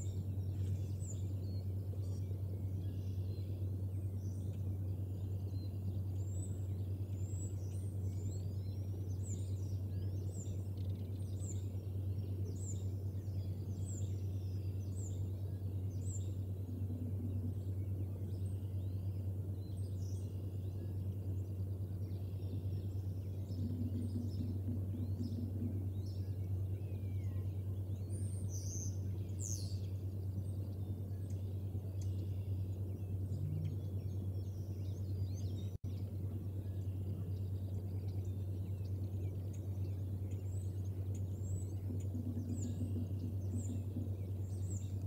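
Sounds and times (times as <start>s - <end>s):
bird chirping: 0.0s - 45.0s
steady low hum: 0.0s - 45.0s.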